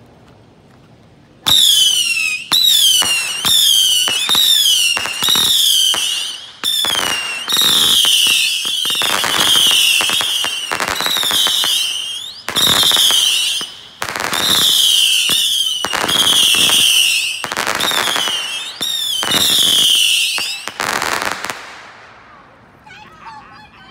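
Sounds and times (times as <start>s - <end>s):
firework crackle: 1.4s - 22.6s
whistling rockets firing: 1.5s - 22.0s.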